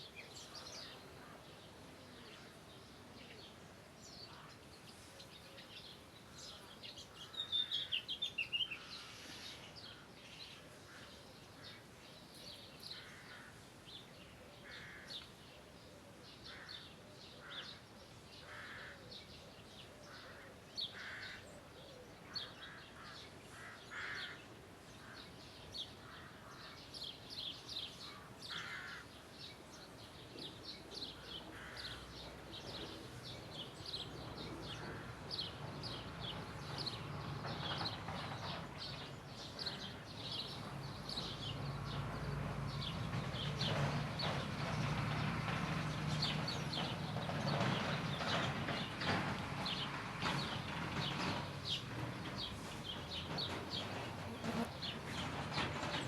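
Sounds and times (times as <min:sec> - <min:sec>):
birds chirping: 0:00.0 - 0:56.0
faint outdoor background noise: 0:00.0 - 0:56.0.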